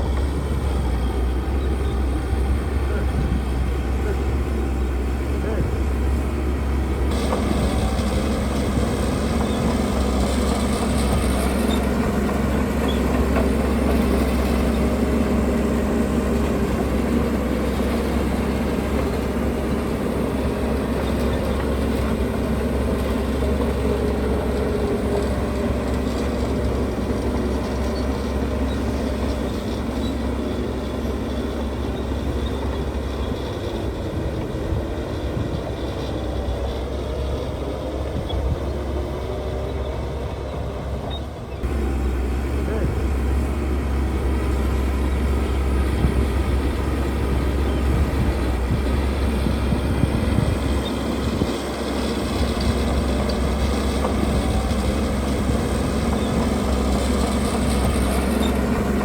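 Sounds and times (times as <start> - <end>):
heavy machinery diesel engine drone: 0.0 - 59.0.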